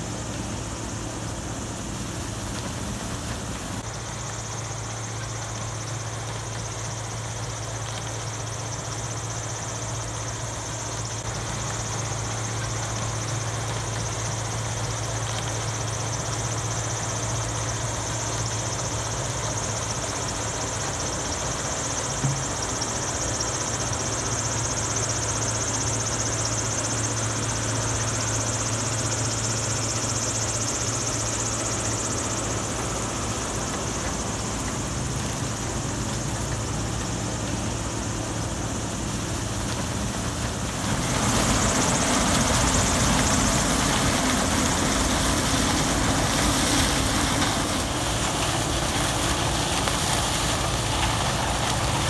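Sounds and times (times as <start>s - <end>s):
heavy machinery engine running: 0.0s - 52.0s.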